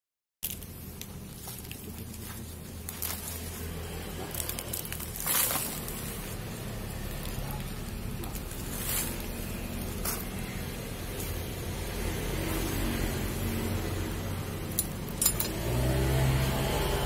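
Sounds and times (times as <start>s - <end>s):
soil and roots scraping: 0.4s - 14.1s
steady low hum: 0.4s - 17.0s.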